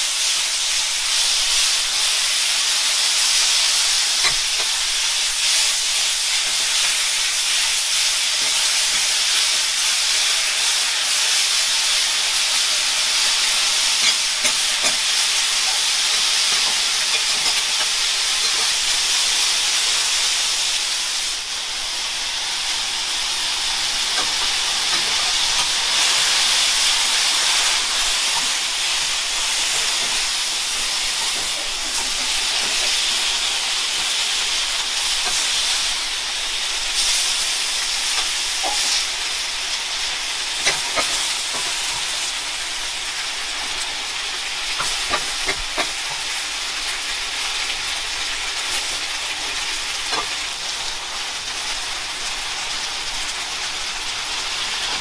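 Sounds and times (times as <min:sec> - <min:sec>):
food sizzling on a griddle: 0:00.0 - 0:55.0.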